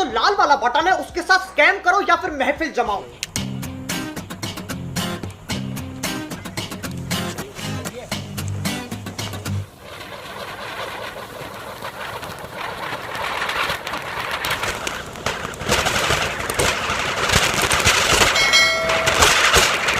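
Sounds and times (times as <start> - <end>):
firecracker fountain hissing: 0.3 - 19.9
rapid crackling: 0.4 - 19.9.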